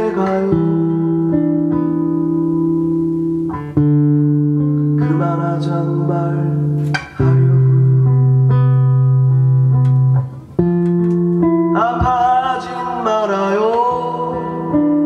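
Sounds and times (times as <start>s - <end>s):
acoustic guitars strumming chords: 0.0s - 15.0s.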